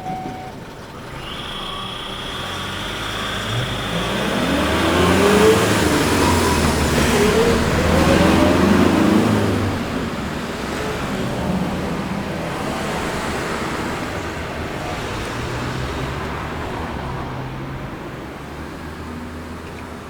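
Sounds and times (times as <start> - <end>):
cars driving past: 0.1 - 20.0.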